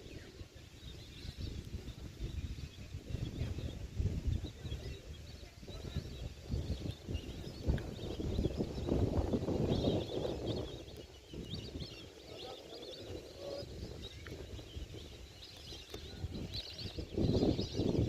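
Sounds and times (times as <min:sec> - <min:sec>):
flock of birds chirping: 0:00.0 - 0:18.0
wind rumble on microphone: 0:00.0 - 0:18.0.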